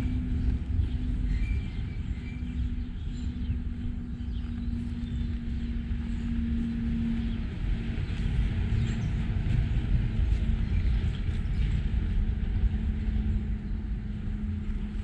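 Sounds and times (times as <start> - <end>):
low rumble: 0.0 - 15.0
steady engine hum: 0.0 - 15.0.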